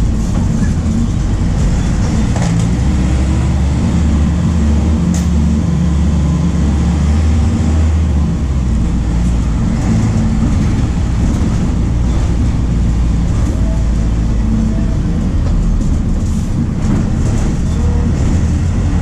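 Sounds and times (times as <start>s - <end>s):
diesel bus engine running: 0.0s - 19.0s.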